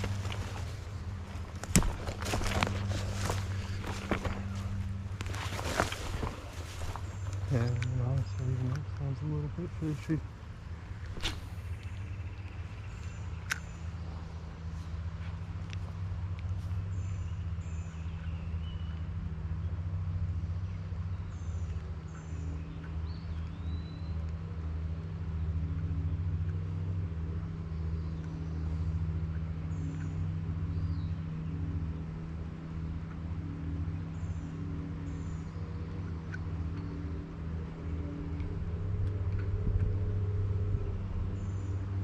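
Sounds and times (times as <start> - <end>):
small birds chirping: 0.0 - 24.6, 25.6 - 42.0
low mechanical hum: 0.0 - 42.0.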